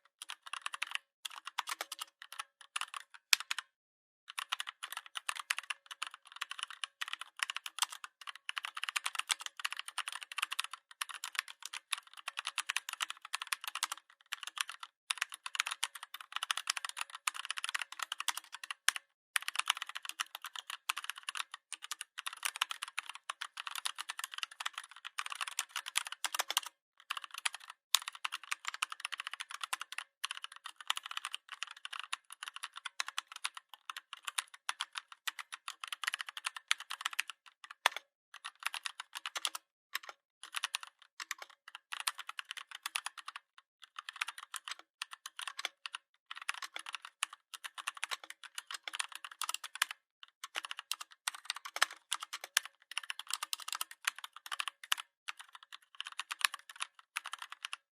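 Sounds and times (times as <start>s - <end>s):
typing on computer keyboard: 0.0s - 3.7s, 4.3s - 57.9s.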